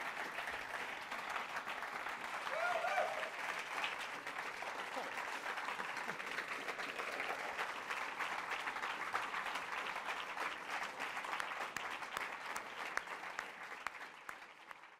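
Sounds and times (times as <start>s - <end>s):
large audience applauding: 0.0s - 14.9s.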